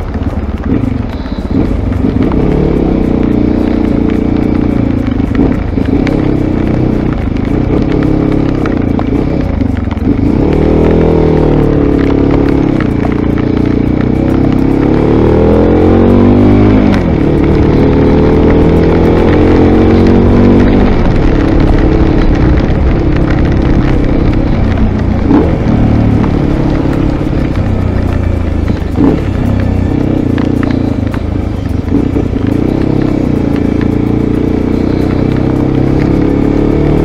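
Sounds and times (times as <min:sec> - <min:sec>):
motorcycle engine accelerating: 0:00.0 - 0:37.0
rain and wind hiss: 0:00.1 - 0:36.8.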